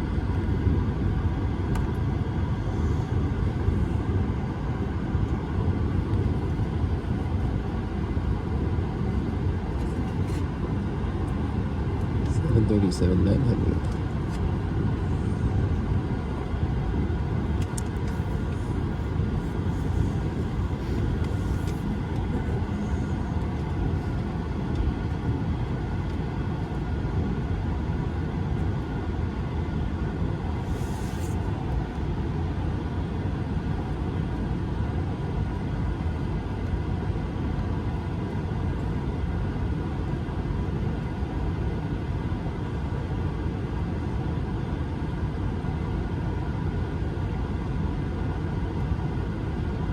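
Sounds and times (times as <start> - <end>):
faint engine whine: 0.0 - 49.9
low rumble of jet engines: 0.0 - 49.9.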